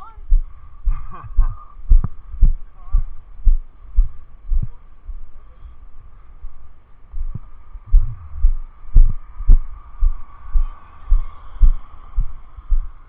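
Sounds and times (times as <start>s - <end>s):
muffled hum: 0.0s - 13.0s
heavy low thuds: 0.2s - 5.3s, 7.1s - 13.0s.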